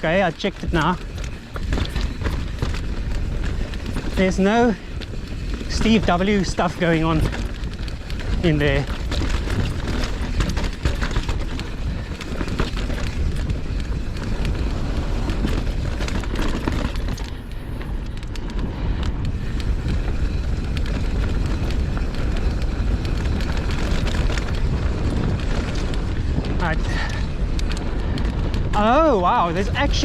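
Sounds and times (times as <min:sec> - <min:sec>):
bike rattling and knocking: 0:00.0 - 0:30.0
bike tyre noise: 0:00.0 - 0:30.0
wind rushing over microphone: 0:00.0 - 0:30.0.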